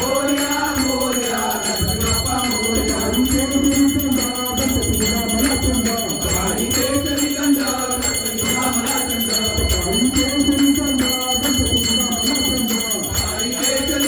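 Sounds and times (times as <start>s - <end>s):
group of voices singing: 0.0s - 14.0s
hand bell ringing: 0.0s - 14.0s.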